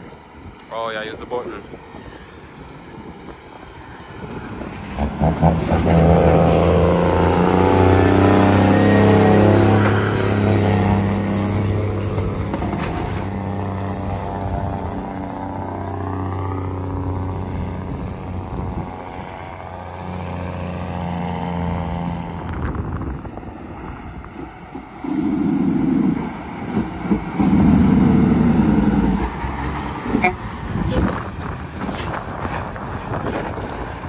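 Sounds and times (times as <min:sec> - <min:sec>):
diesel truck engine under load: 0:03.4 - 0:34.0
approaching diesel truck engine: 0:03.8 - 0:34.0.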